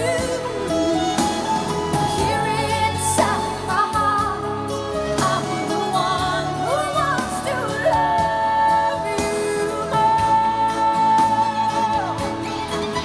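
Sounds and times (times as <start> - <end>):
person singing a ballad: 0.0 - 13.0.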